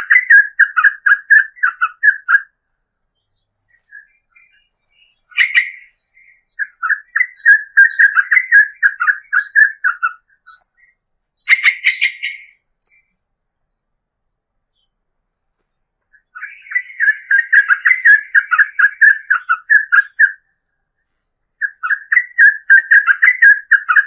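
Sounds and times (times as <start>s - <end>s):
bulbul singing: 0.0s - 24.0s.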